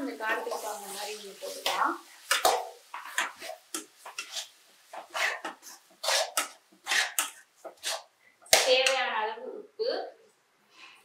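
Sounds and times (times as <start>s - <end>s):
metal spatula scraping a pan: 0.0s - 9.1s.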